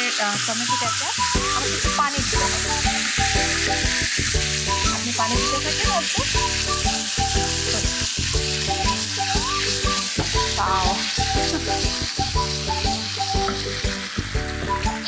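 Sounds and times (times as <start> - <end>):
background music: 0.0 - 15.0
sauce sizzling in frying pan: 0.0 - 15.0
water pouring: 0.0 - 15.0.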